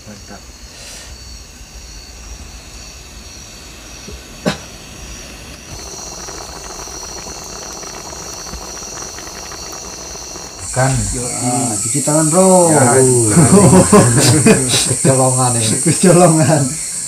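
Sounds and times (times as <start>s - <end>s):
cooking pot hissing: 0.0s - 17.0s
insects chirring: 0.0s - 17.0s.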